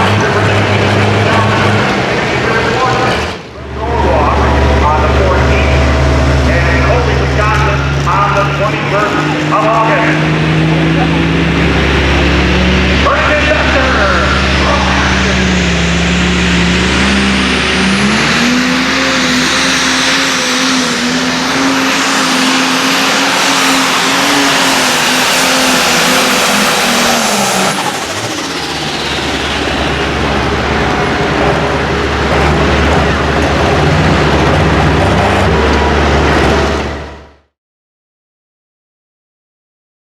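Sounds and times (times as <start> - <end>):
tractor diesel engine revving: 0.0 - 37.5.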